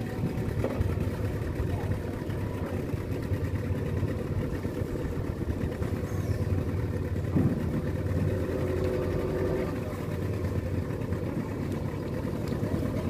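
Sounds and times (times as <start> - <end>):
boat motor running at low throttle: 0.0 - 13.0.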